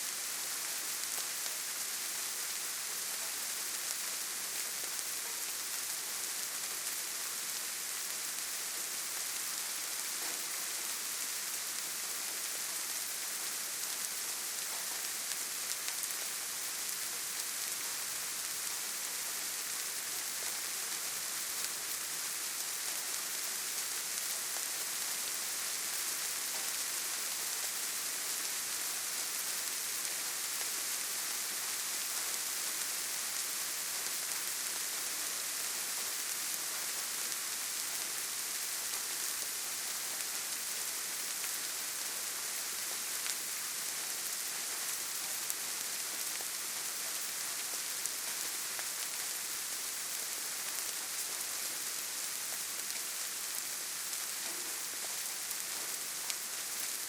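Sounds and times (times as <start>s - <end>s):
gentle rain on leaves: 0.0s - 57.0s.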